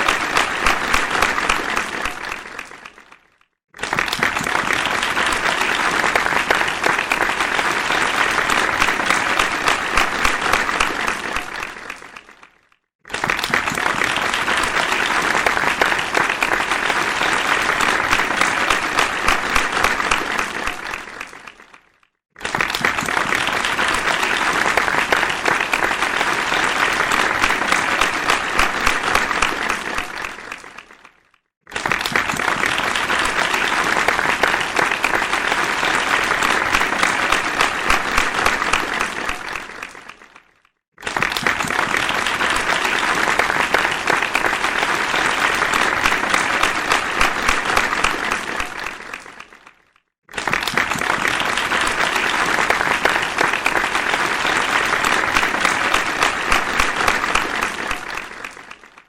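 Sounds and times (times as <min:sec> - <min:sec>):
audience applause: 0:00.0 - 0:59.0.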